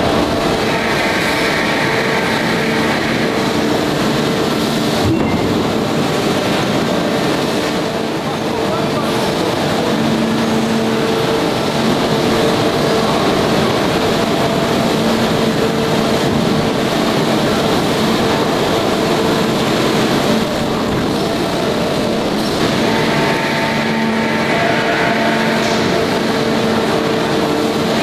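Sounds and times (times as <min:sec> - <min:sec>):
forging machinery noise: 0:00.0 - 0:28.0.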